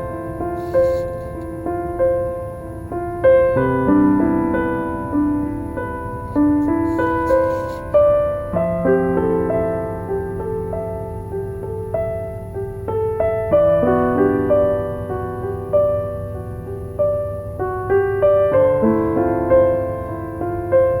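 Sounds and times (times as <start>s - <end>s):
soft slow piano music: 0.0s - 21.0s.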